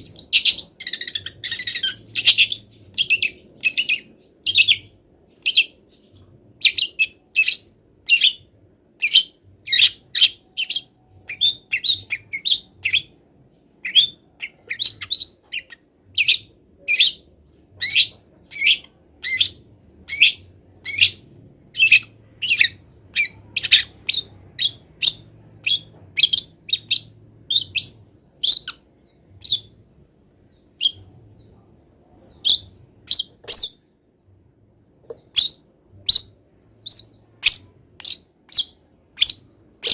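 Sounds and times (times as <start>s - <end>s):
bird singing sharp high chirps: 0.0s - 13.2s, 13.8s - 29.8s, 35.2s - 39.9s.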